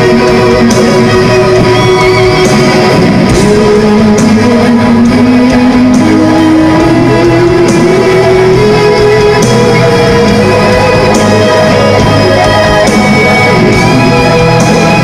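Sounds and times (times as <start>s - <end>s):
distorted electric guitars: 0.0s - 15.0s
drums: 0.0s - 15.0s.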